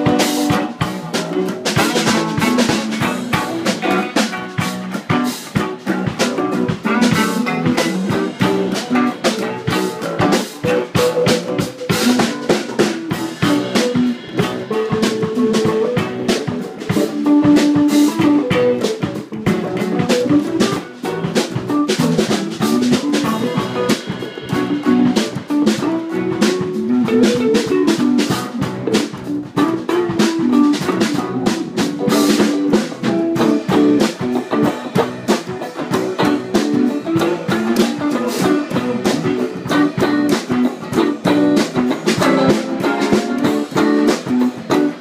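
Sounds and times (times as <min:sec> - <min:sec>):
drum kit beat: 0:00.0 - 0:45.0
electric bass: 0:00.0 - 0:45.0
electric guitar: 0:00.0 - 0:45.0.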